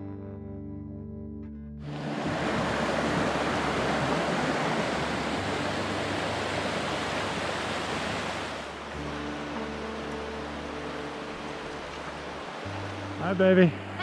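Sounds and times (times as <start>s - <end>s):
water rushing over rocks: 1.9s - 14.0s.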